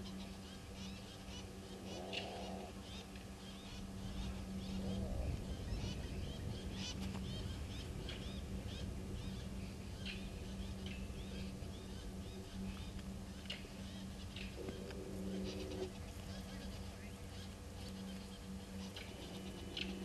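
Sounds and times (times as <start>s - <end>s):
birds chirping rapidly: 0.0s - 20.0s
low bird calls: 0.0s - 20.0s.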